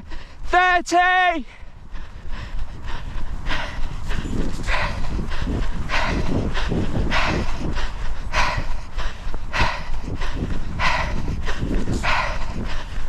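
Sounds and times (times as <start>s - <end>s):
person panting heavily: 0.0s - 0.6s, 1.4s - 13.0s.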